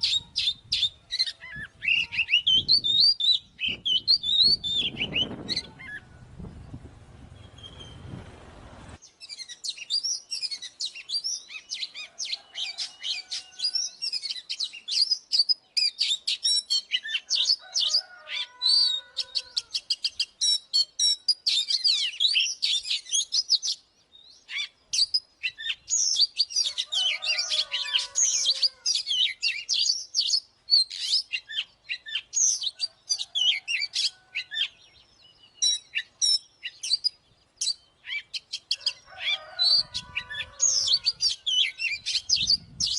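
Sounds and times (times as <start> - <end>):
bird singing varied song: 0.0 - 8.2, 9.0 - 42.9.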